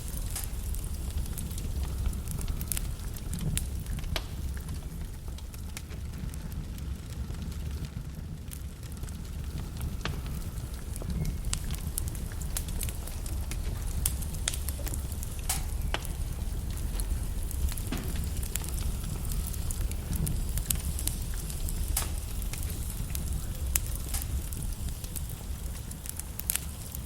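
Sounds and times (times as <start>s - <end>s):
fireplace flame rumble: 0.0s - 27.0s
wood crackling and popping: 0.0s - 27.0s.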